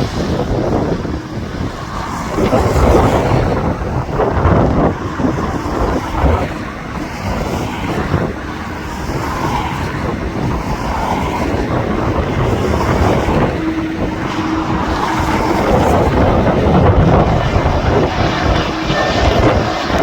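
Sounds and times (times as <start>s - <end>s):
aircraft engines rumbling: 0.0s - 20.0s
wind buffeting microphone: 0.0s - 20.0s.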